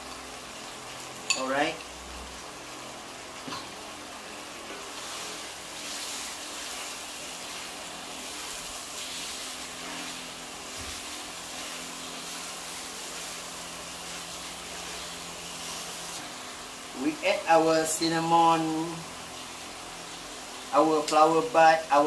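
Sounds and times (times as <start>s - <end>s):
spice paste sizzling in oil: 0.0s - 22.0s.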